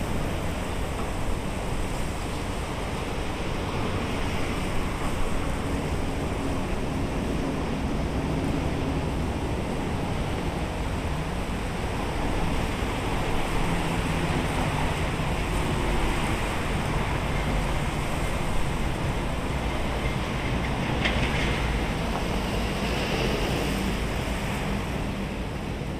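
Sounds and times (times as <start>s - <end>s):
steady rushing background noise: 0.0s - 25.9s.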